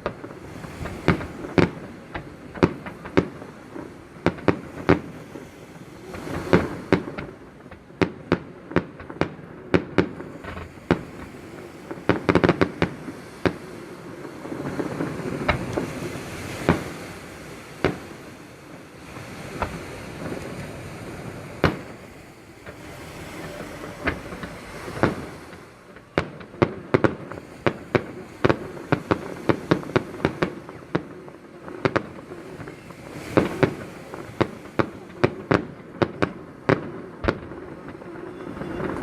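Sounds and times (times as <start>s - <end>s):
firework shells booming: 0.0s - 5.3s, 6.0s - 39.0s
crackling firework bangs: 0.0s - 39.0s.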